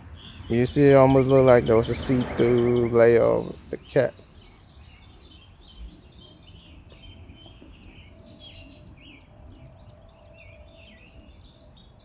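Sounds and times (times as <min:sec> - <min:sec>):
low outdoor rumble: 0:00.0 - 0:11.9
small birds chirping: 0:00.0 - 0:12.0.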